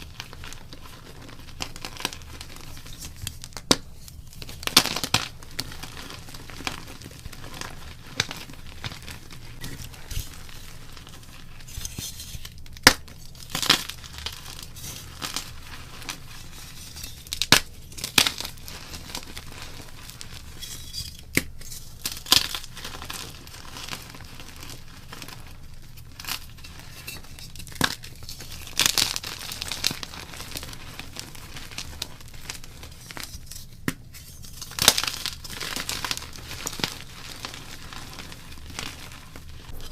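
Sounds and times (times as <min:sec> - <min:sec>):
chalk crunching and snapping: 0:00.0 - 0:39.9.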